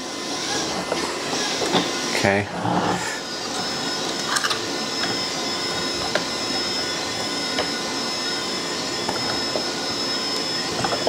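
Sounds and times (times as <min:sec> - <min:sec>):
whirring machine hum: 0:00.0 - 0:11.0.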